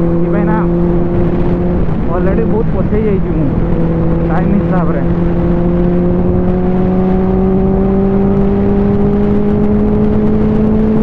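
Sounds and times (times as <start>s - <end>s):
motorcycle engine accelerating: 0.0s - 11.0s
wind noise on microphone: 0.0s - 11.0s.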